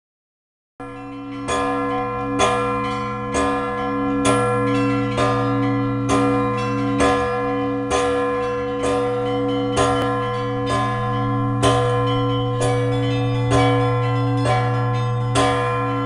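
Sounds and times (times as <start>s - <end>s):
church bells ringing: 0.8s - 16.0s.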